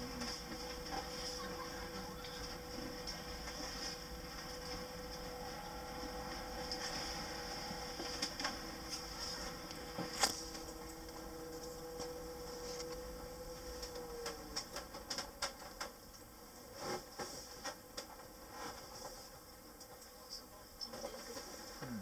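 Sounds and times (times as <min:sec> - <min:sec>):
electric drive whine: 0:00.0 - 0:20.0.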